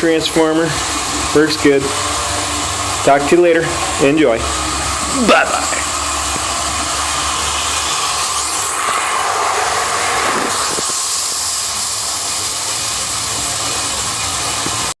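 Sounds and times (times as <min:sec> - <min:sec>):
model train whirring on track: 0:00.0 - 0:15.0.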